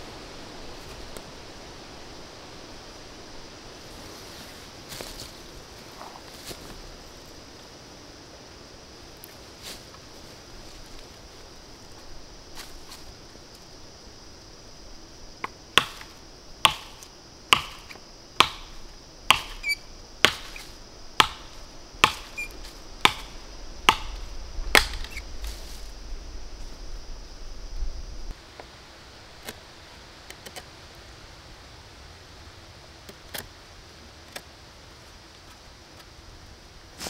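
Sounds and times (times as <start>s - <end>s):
steady high hiss: 0.0s - 37.0s.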